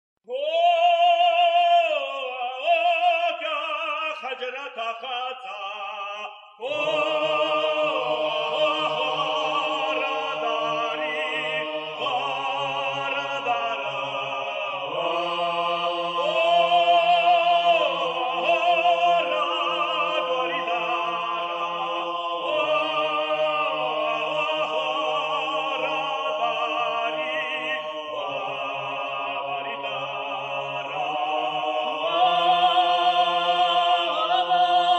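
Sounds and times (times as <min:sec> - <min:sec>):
folk song sung in parts: 0:00.3 - 0:34.9.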